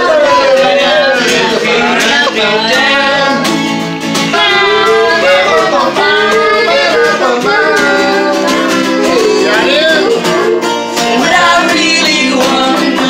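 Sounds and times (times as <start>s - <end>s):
acoustic guitar strumming: 0.0s - 13.0s
people singing: 0.0s - 13.0s
ukulele strumming: 0.0s - 13.0s.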